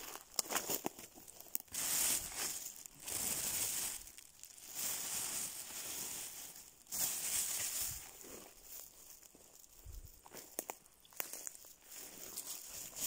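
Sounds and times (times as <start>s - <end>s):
rustling and crinkling handling noise: 0.0s - 13.0s.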